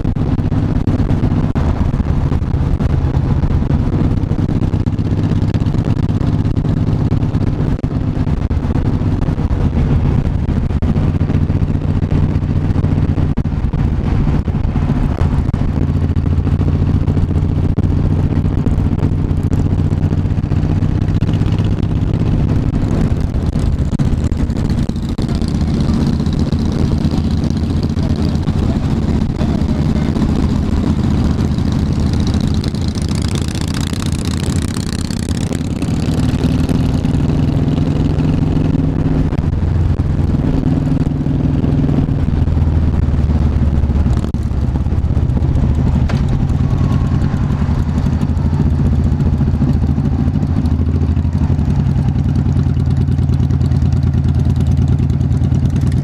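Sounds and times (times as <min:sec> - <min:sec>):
motorcycle engine running: 0:00.0 - 0:56.0
passing motorcycle: 0:00.0 - 0:56.0.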